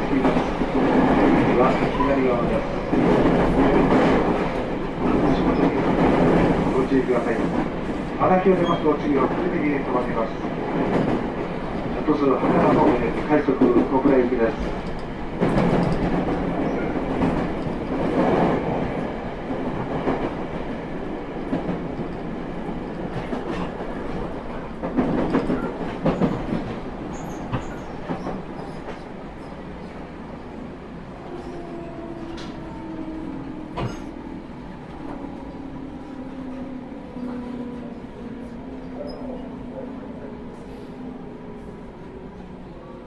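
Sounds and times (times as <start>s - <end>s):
train running noise: 0.0s - 43.0s.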